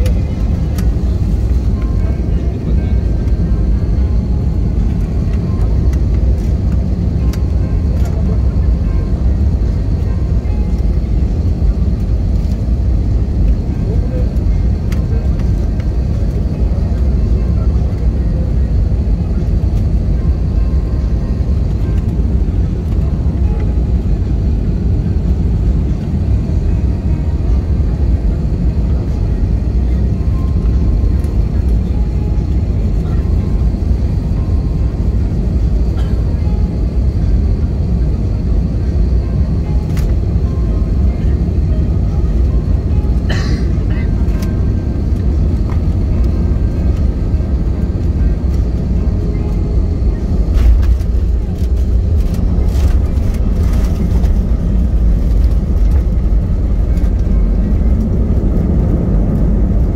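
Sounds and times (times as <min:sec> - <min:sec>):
jet engine and airflow rush: 0:00.0 - 0:59.9.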